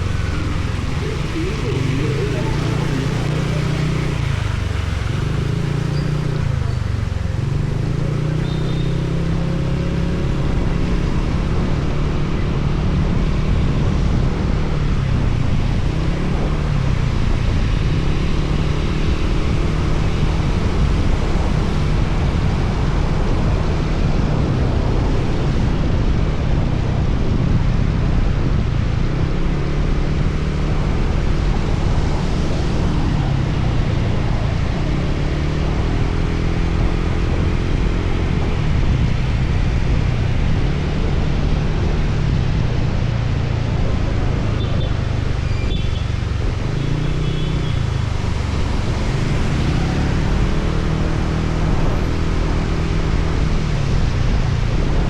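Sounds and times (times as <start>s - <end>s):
wind and wet road hiss: 0.0s - 7.9s, 18.8s - 55.0s
motorcycle engine drone: 0.0s - 55.0s.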